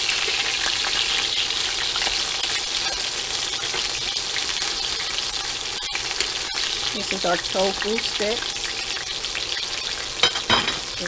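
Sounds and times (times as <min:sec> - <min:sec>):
tofu frying in crackling oil: 0:00.0 - 0:11.0.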